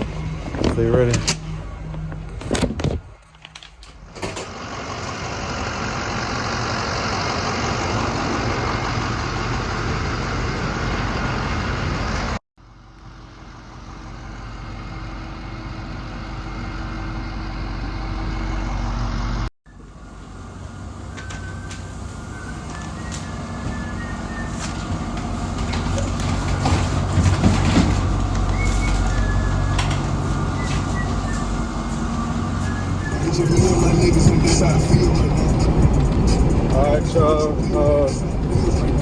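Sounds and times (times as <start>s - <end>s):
truck engine hum and rumble: 0.0s - 39.0s.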